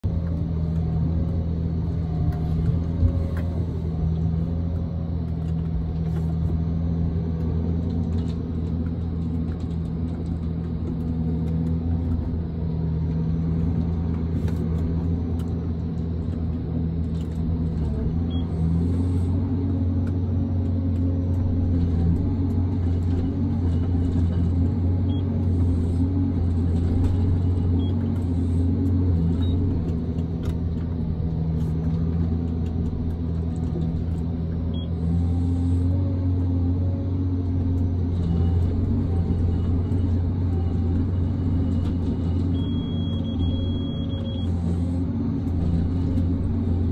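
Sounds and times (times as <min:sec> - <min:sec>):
diesel engine and hydraulics drone: 0:00.0 - 0:46.9.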